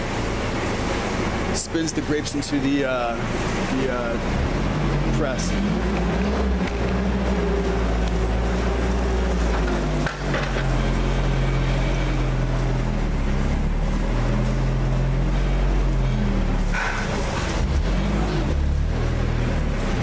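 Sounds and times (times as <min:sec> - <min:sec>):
wine press mechanical hum: 0:00.0 - 0:20.0.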